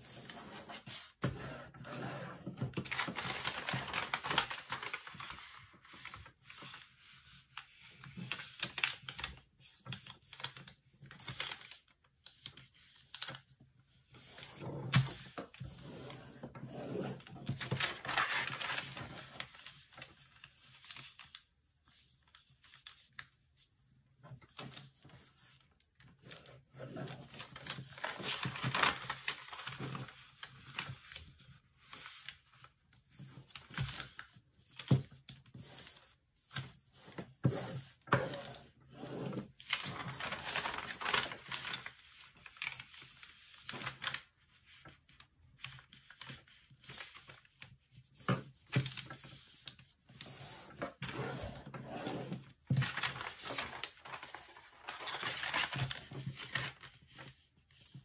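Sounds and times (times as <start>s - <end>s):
paper rustling and crinkling: 0.0s - 58.0s.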